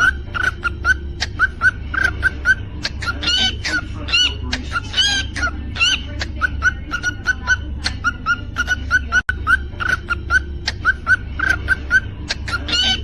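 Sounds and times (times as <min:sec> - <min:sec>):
cockatiel chirping and whistling: 0:00.0 - 0:13.0.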